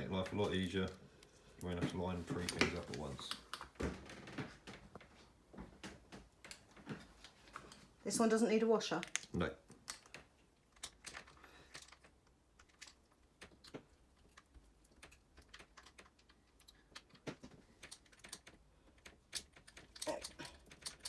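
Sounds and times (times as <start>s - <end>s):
faint clicks and taps of parts: 0.2s - 8.0s, 9.0s - 21.0s.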